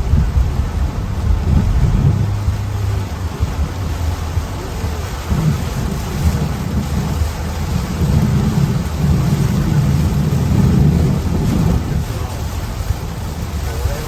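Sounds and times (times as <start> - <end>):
rain hissing: 0.0 - 14.0
wind and road noise rumble: 0.0 - 14.0.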